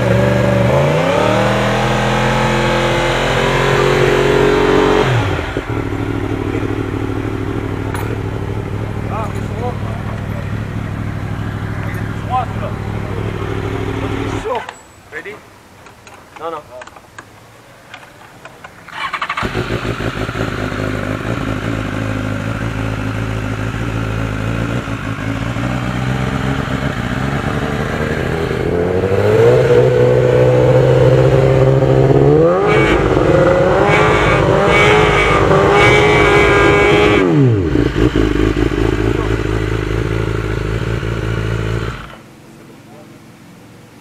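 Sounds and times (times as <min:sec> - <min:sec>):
motorcycle engine revving: 0:00.0 - 0:14.6, 0:18.9 - 0:42.6.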